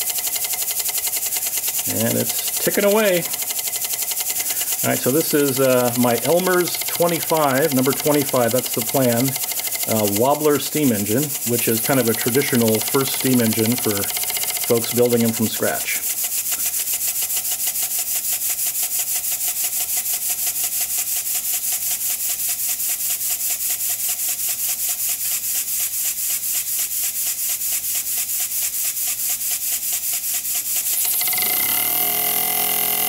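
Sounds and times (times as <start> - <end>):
steam engine exhaust puffs: 0.0 - 33.0.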